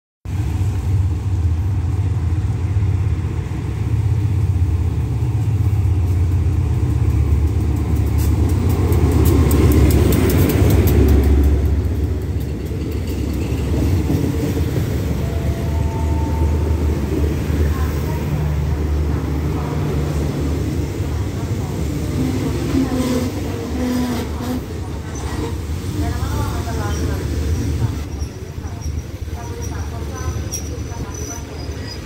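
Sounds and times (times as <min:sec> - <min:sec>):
diesel locomotive rumbling: 0:00.2 - 0:32.0
train coaches rolling by: 0:00.3 - 0:32.0.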